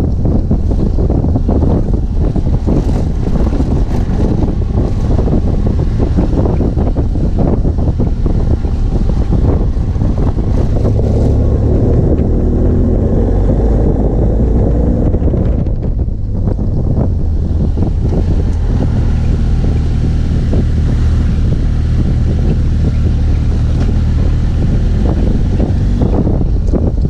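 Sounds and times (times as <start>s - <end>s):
motorcycle engine running: 0.0s - 27.0s
wind noise on microphone: 0.0s - 27.0s.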